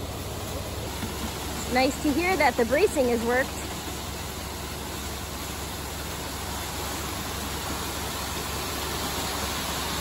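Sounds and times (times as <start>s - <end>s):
truck engine humming: 0.0s - 10.0s
wet concrete rushing down chute: 0.0s - 10.0s.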